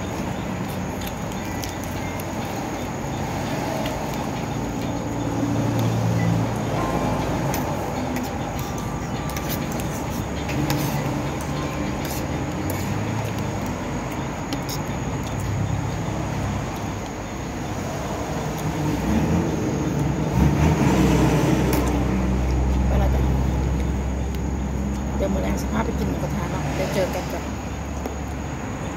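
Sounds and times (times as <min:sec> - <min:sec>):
road noise: 0:00.0 - 0:28.9
vehicle engine: 0:00.0 - 0:28.9.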